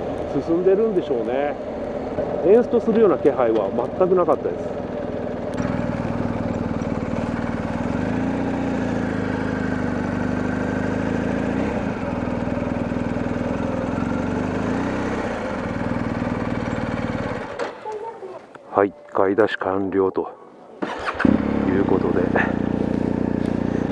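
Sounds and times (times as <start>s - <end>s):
motorcycle engine running: 0.0s - 17.9s, 20.8s - 23.9s.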